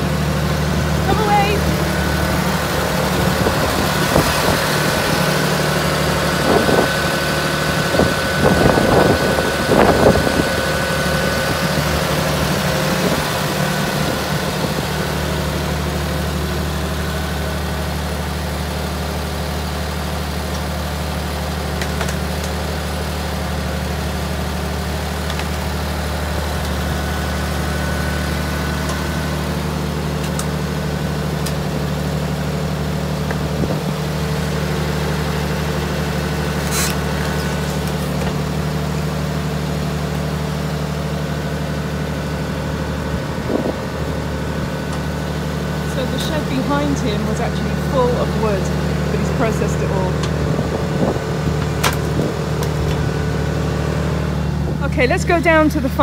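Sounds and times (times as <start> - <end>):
firewood processor engine running: 0.0 - 56.0.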